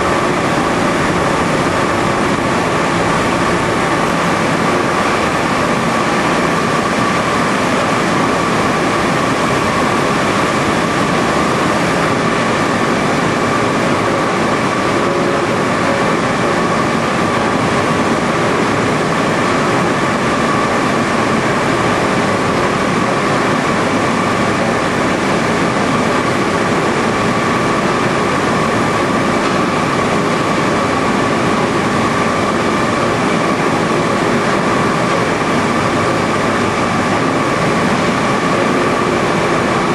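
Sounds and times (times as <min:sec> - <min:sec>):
electric motors and pumps running: 0:00.0 - 0:39.9.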